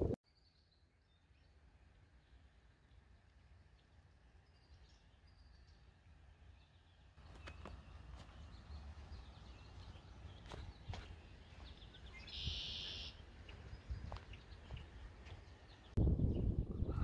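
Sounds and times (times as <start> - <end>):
small birds chirping: 0.3 - 17.0
low wind rumble: 1.9 - 17.0.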